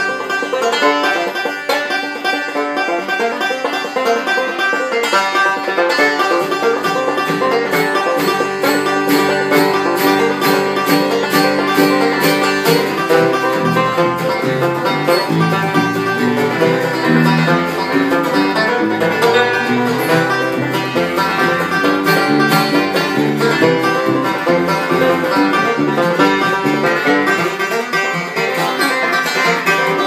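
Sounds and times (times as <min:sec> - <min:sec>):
acoustic guitar picking: 0:00.0 - 0:30.0
banjo picking: 0:00.0 - 0:30.0
bluegrass band playing: 0:00.0 - 0:30.0.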